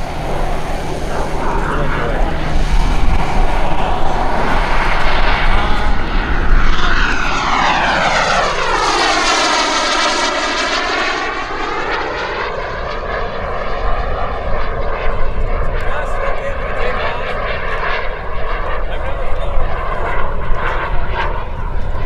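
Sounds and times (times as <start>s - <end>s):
model jet turbine passing by: 0.0s - 22.0s.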